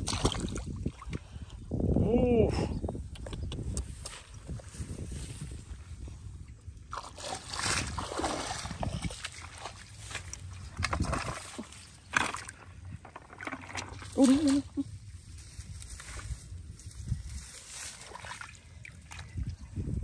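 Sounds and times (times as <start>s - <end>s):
muddy water sloshing: 0.0s - 1.7s, 3.9s - 16.4s, 17.2s - 20.0s.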